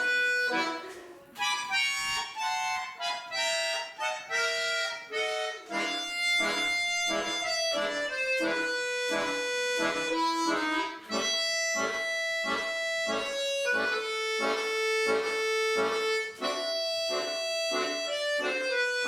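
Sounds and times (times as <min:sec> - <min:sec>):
accordion playing lively melody: 0:00.0 - 0:19.0.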